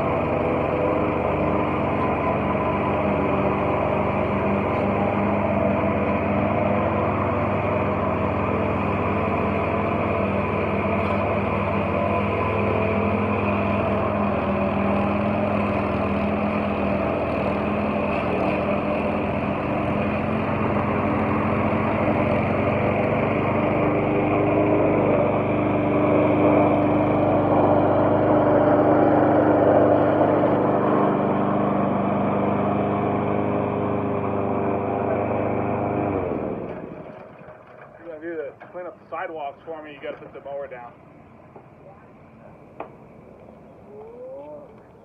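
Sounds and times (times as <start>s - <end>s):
lawn mower engine running: 0.0s - 44.0s.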